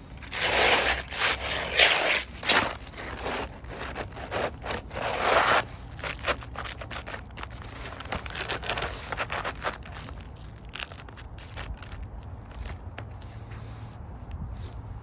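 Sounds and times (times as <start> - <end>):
scraping of shingles: 0.0 - 13.7
shingles crackling and clicking: 0.2 - 13.3.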